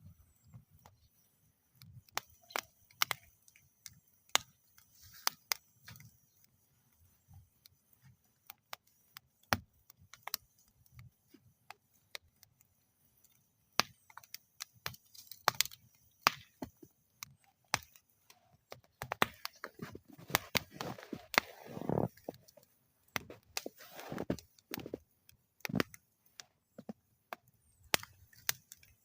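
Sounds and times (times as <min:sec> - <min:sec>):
wood fire crackling and popping: 0:00.4 - 0:29.0.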